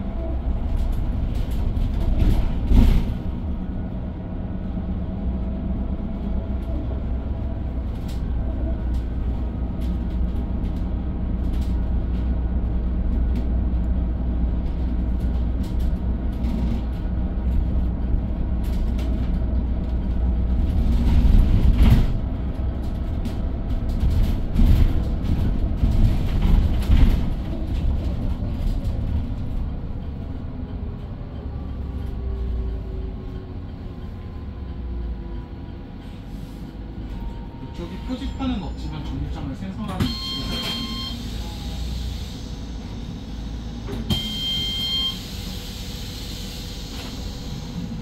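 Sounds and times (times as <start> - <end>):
bus low rumble: 0.0 - 48.0
bus rattling: 0.0 - 48.0.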